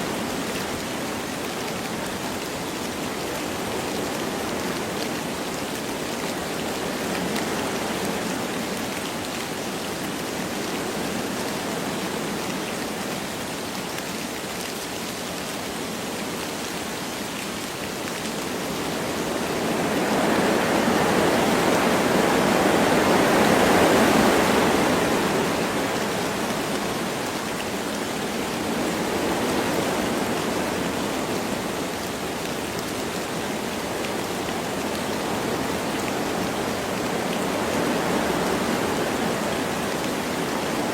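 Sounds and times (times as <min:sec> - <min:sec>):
light rain falling: 0:00.0 - 0:40.9
wind through trees: 0:00.0 - 0:40.9.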